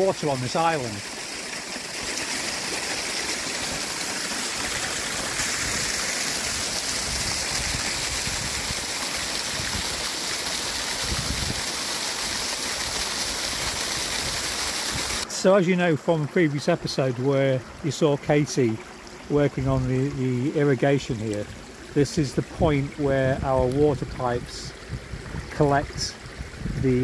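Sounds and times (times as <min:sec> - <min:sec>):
stream rushing over waterfall: 0:00.0 - 0:27.0.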